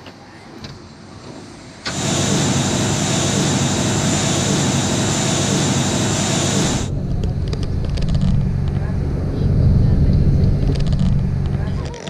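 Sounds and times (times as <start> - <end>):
jet engine rush and whine: 0.9 - 11.9.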